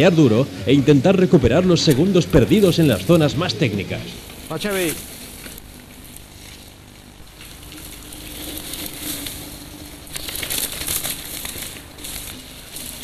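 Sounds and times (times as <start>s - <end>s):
bike tyres skidding on dirt: 1.4s - 13.0s.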